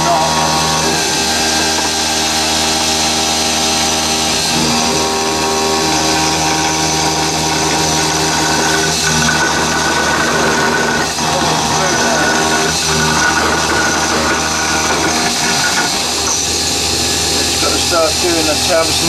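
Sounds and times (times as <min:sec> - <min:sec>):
milling machine motor whine: 0:00.0 - 0:19.0.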